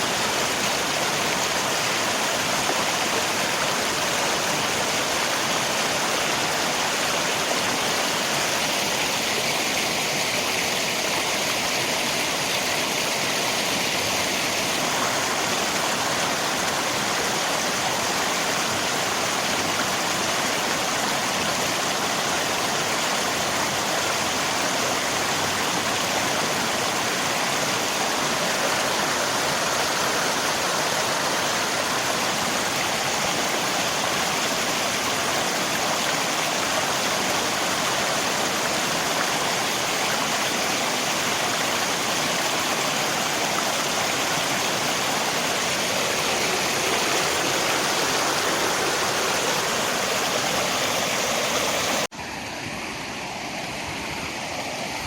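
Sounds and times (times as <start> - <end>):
flowing river water: 0.0 - 55.0
rain: 0.0 - 55.0.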